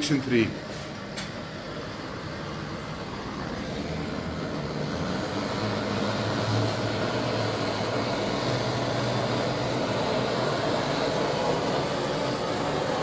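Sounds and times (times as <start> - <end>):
kitchen torch flame hissing: 0.0 - 13.0.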